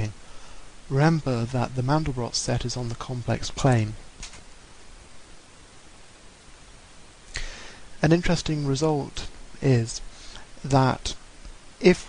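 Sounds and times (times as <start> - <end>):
microphone hiss: 0.0 - 12.0.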